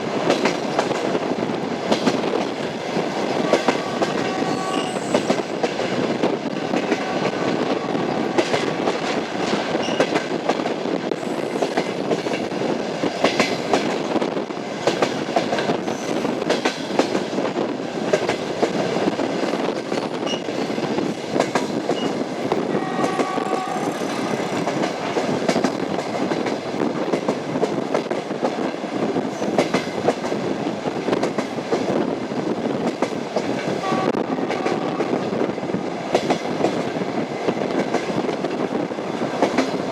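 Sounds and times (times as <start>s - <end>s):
train wheels clattering: 0.1s - 32.1s, 32.8s - 39.9s.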